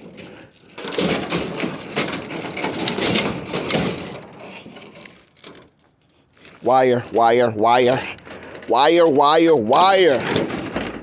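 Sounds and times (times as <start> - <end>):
scrap metal rattling and clinking: 0.0 - 8.7, 9.7 - 11.0.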